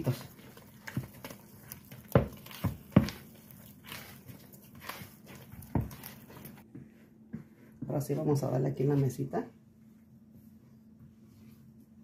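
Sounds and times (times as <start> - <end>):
hand squishing wet dough: 0.0 - 12.0.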